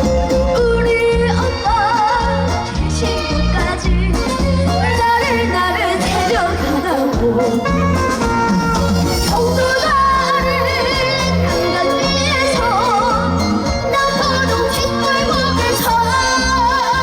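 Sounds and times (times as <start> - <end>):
person singing with vibrato: 0.0 - 17.0
repeating bass line: 0.0 - 17.0.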